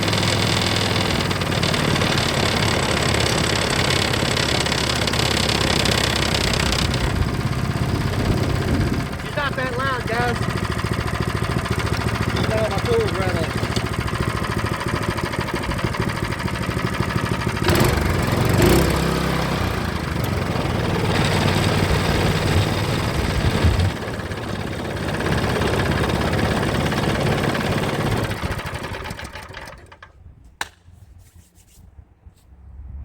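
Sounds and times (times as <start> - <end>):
small gasoline engine running: 0.0 - 30.2.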